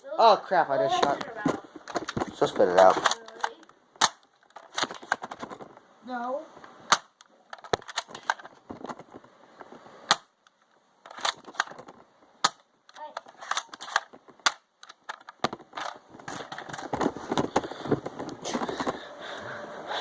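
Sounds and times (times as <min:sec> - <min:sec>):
rustling of handling: 0:00.9 - 0:05.9, 0:06.5 - 0:19.1.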